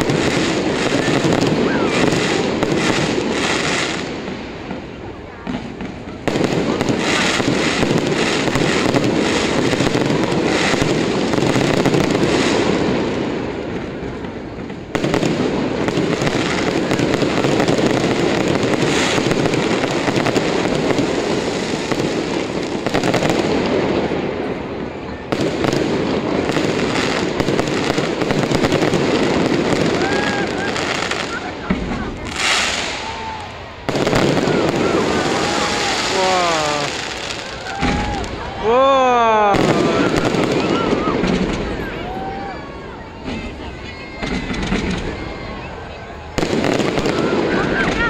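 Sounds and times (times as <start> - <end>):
fireworks crackle: 0.0 - 48.0.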